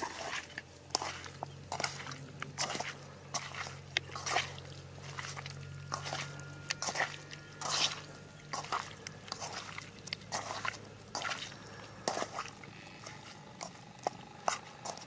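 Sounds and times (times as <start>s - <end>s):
low steady hum: 0.0s - 15.0s
wet splashes and squelches: 0.0s - 15.0s.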